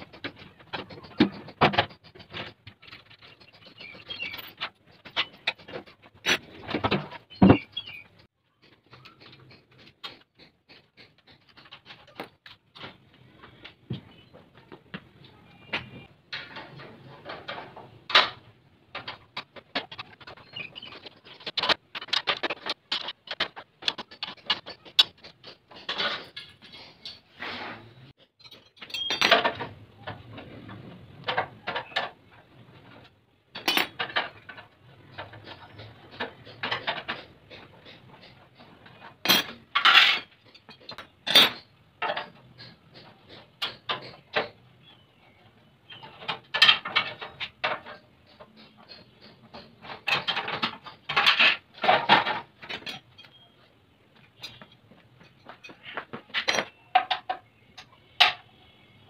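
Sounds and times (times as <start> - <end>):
metal tools clinking and rattling: 0.0 - 13.6, 15.6 - 27.4, 28.1 - 45.0, 45.9 - 53.6, 54.2 - 58.5.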